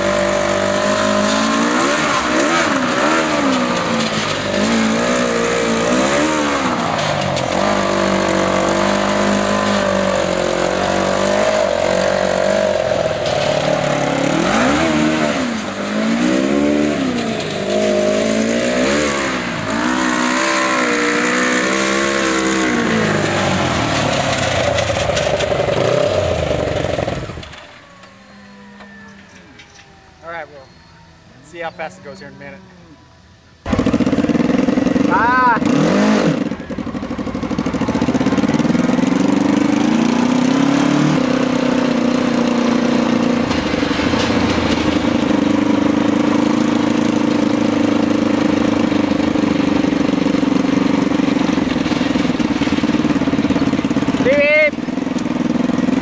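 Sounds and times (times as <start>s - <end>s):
motorcycle engine revving: 0.0s - 31.0s, 33.5s - 56.0s.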